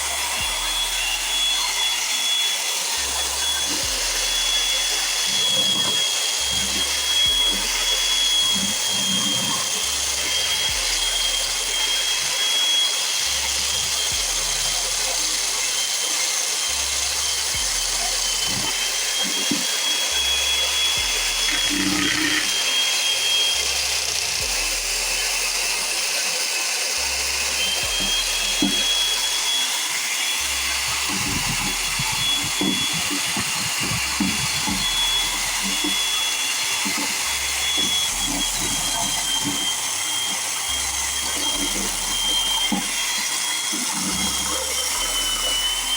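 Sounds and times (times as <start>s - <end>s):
power tool whining: 0.0s - 45.9s.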